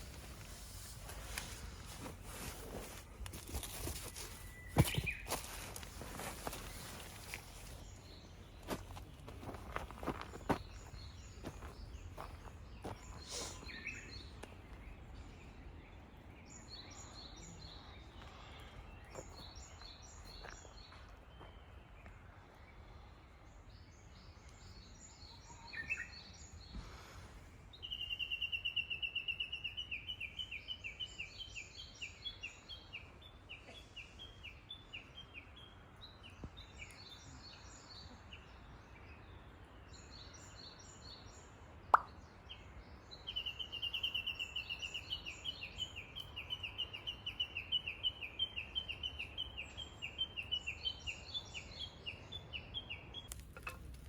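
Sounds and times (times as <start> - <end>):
faint outdoor background: 0.0 - 54.0
songbirds singing: 0.0 - 54.0.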